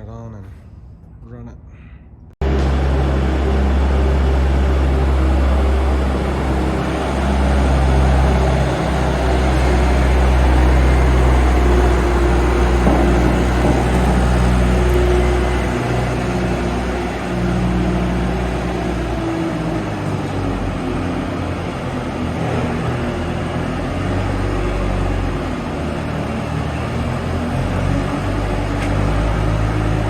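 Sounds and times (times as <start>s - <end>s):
machine noise: 2.4s - 30.0s
skid steer diesel engine revving: 2.4s - 30.0s.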